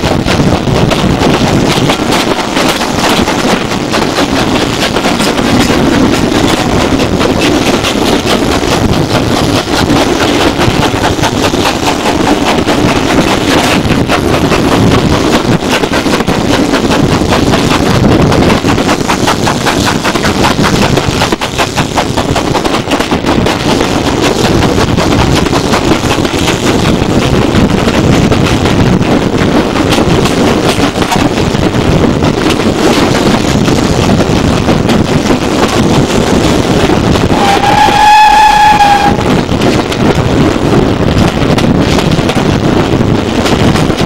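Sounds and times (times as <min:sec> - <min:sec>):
steam locomotive exhaust beats: 0:00.0 - 0:44.0
wind buffeting microphone: 0:00.0 - 0:44.0.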